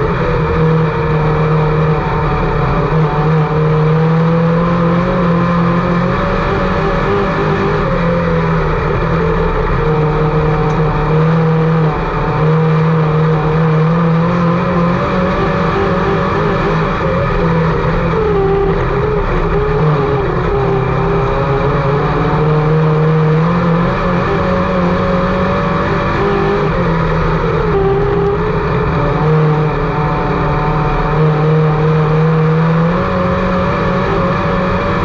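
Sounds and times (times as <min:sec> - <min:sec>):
race car engine running hard: 0:00.0 - 0:35.0.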